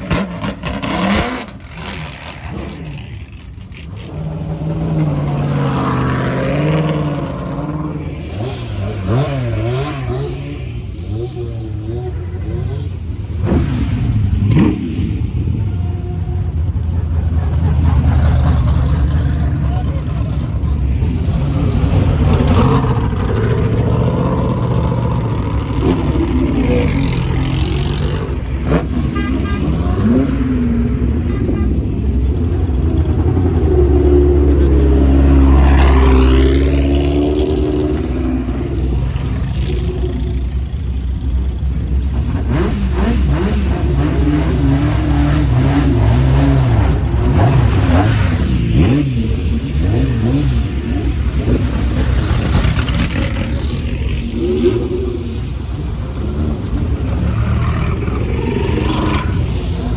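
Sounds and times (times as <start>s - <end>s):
engines revving: 0.0s - 59.9s
racing cars passing: 0.0s - 59.9s.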